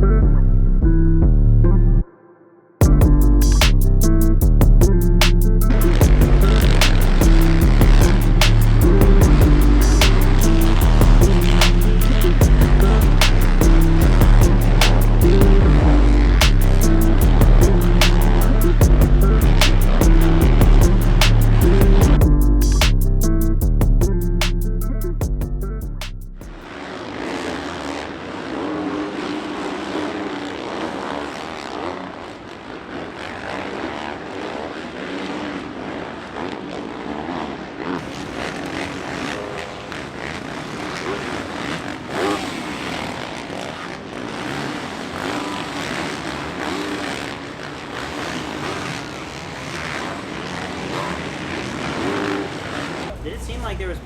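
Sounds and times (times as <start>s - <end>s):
dirt bike engines revving: 2.8s - 54.0s.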